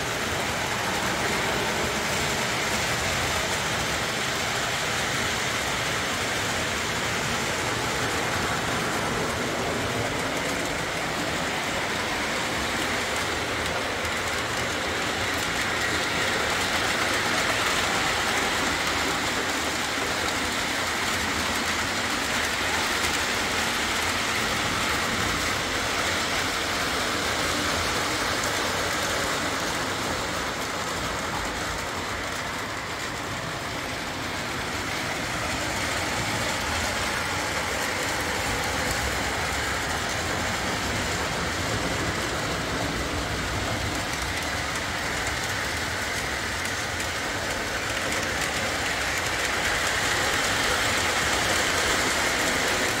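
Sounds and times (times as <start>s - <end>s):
model train motor whir: 0.0s - 53.0s
wheels rattling on rails: 0.0s - 53.0s.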